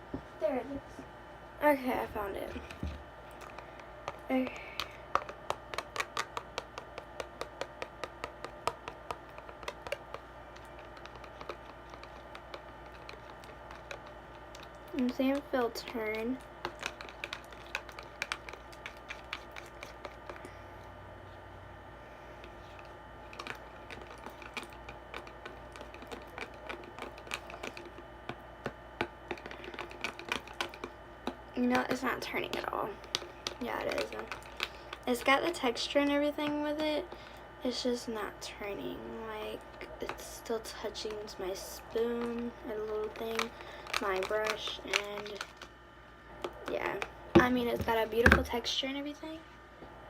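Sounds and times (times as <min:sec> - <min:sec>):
spoon stirring slime: 0:01.8 - 0:21.0, 0:22.4 - 0:37.3, 0:39.3 - 0:45.7.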